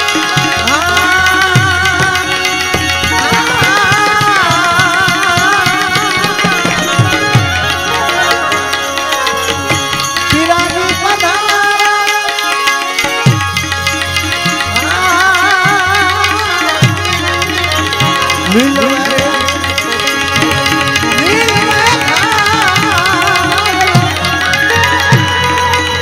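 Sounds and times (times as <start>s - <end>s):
devotional melody of wavering notes: 0.0s - 26.0s
hand drum rhythm: 0.0s - 26.0s.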